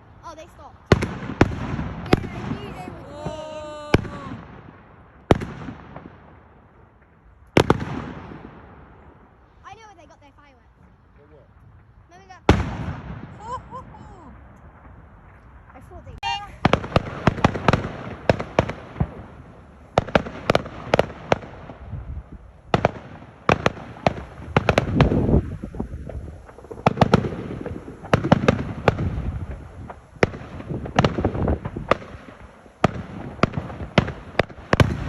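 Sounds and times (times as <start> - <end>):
fireworks banging: 0.0 - 35.0.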